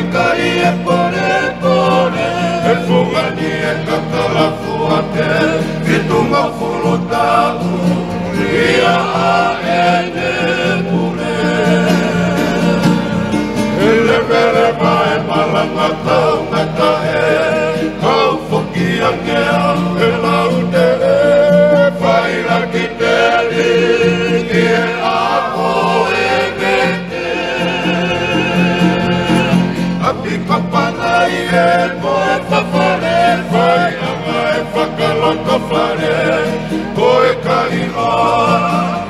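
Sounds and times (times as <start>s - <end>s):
acoustic guitar: 0.0s - 39.0s
men singing in harmony: 0.0s - 39.0s.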